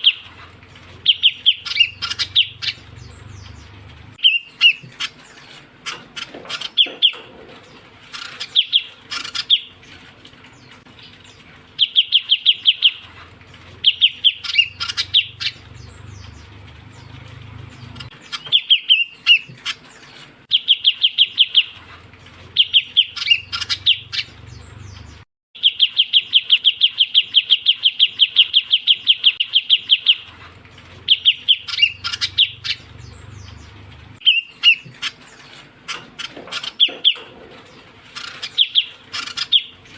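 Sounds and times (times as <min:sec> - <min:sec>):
bird chirps: 0:00.0 - 0:07.4, 0:08.1 - 0:13.1, 0:13.8 - 0:21.8, 0:22.5 - 0:30.3, 0:31.0 - 0:39.9
bird trills: 0:01.0 - 0:07.3, 0:08.1 - 0:10.0, 0:11.0 - 0:13.1, 0:13.8 - 0:17.2, 0:17.8 - 0:21.8, 0:22.5 - 0:30.3, 0:31.1 - 0:37.3, 0:38.1 - 0:39.9.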